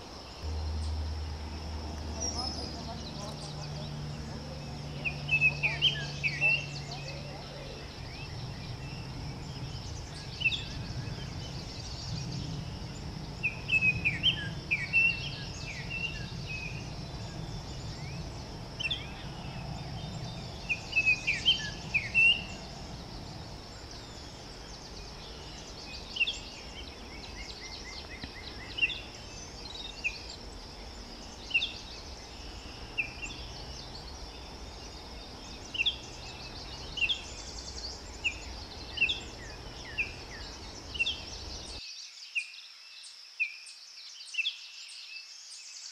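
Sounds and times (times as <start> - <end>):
small birds chirping and calling: 0.0 - 42.5
steady background hiss: 0.0 - 45.9.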